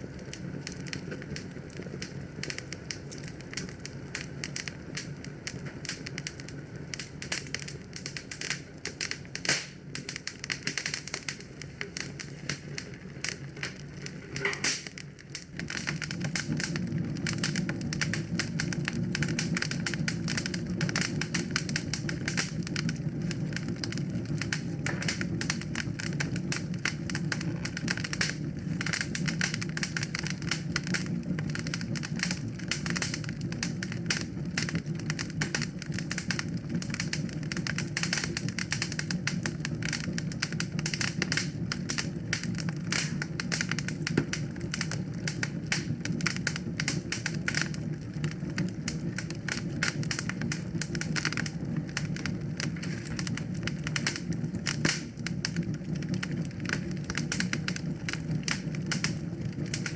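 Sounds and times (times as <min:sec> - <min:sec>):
fireplace fire crackling: 0:00.0 - 0:59.9
low rushing of flames: 0:00.0 - 0:59.9.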